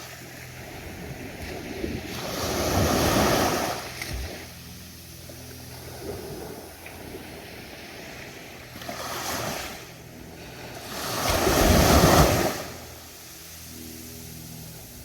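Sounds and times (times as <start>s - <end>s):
ocean waves breaking on a beach: 0.0s - 15.0s.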